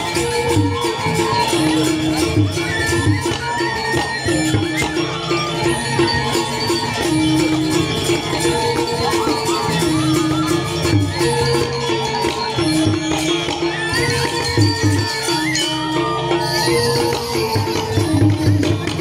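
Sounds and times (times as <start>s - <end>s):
gamelan music: 0.0s - 19.0s.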